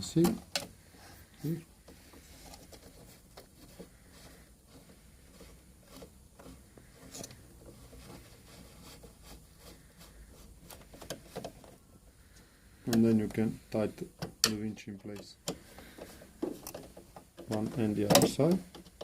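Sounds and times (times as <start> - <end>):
light clicks rubs and scrapes: 0.1 - 19.0.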